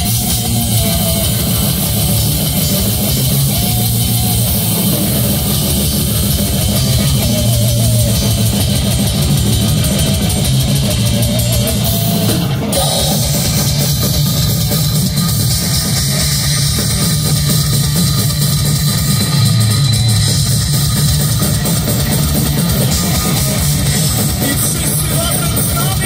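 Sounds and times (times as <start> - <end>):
distorted electric guitars: 0.0 - 26.0
drum kit: 0.0 - 26.0.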